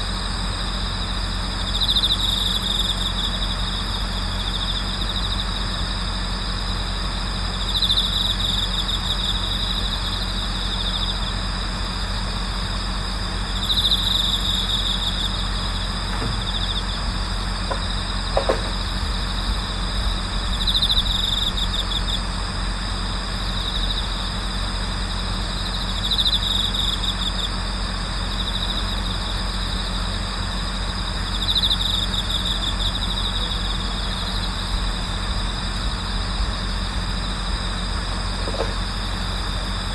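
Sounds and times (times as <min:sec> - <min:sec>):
bell cricket trill: 0:00.0 - 0:39.9
high-pitched insect trill: 0:00.0 - 0:39.9
steady low hum: 0:00.0 - 0:39.9.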